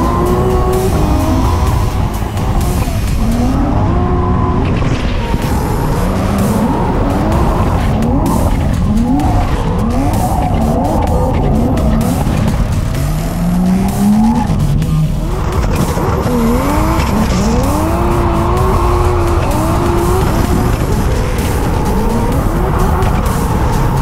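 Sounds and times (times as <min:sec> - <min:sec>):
car engine revving: 0:00.0 - 0:24.0
tyres squealing and skidding: 0:00.0 - 0:24.0.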